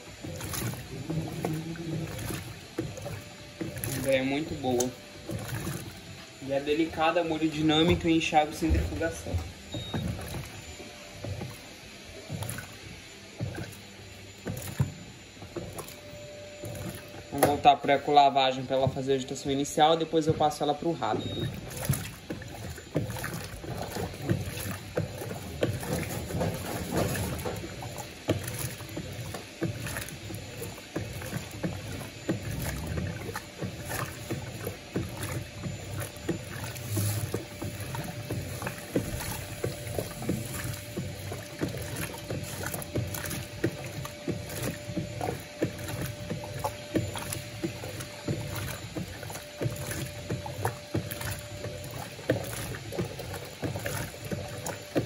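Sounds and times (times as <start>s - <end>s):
faint steady hum: 0.0s - 55.0s
washing machine water sloshing: 0.0s - 55.0s.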